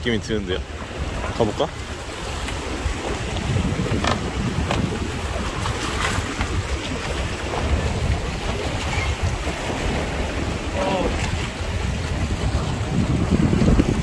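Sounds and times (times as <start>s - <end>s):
sea waves on rocky shore: 0.0s - 14.0s
wind buffeting microphone: 0.0s - 14.0s.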